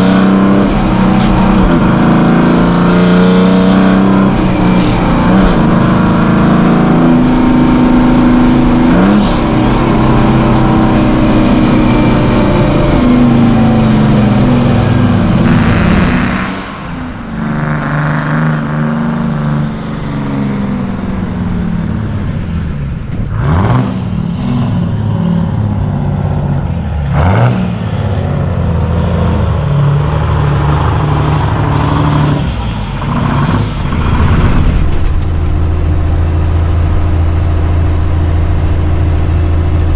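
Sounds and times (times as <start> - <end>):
diesel truck engines under load: 0.0 - 39.9.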